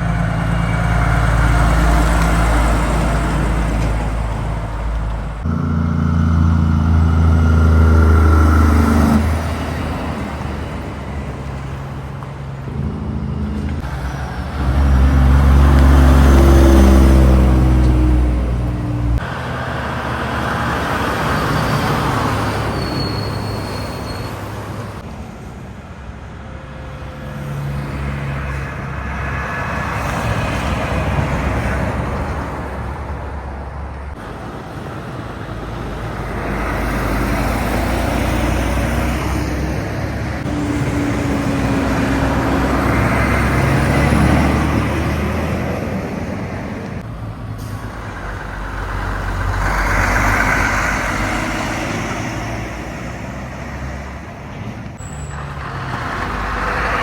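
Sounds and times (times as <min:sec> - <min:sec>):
vehicles passing on highway: 0:00.0 - 0:57.0.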